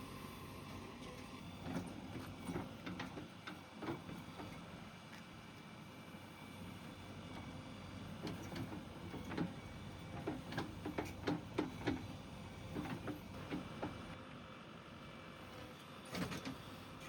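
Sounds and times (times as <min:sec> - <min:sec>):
backhoe engine running: 0:00.0 - 0:17.0.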